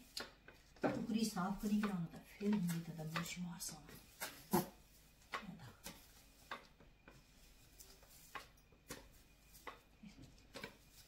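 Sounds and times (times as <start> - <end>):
broom sweeping tiled floor: 0.0 - 11.0.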